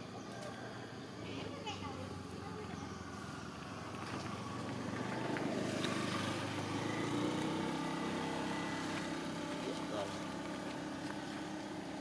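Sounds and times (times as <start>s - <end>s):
vehicle engine running: 0.8s - 12.0s.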